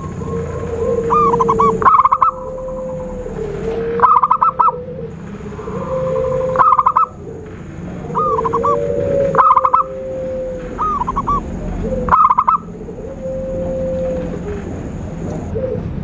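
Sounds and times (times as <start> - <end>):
doves cooing: 0.0 - 16.0
steady low tone: 0.0 - 16.0.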